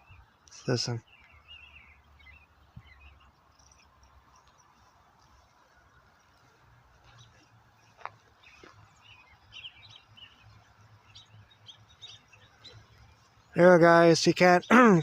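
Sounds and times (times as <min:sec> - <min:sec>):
robin chirping: 0:00.0 - 0:15.0.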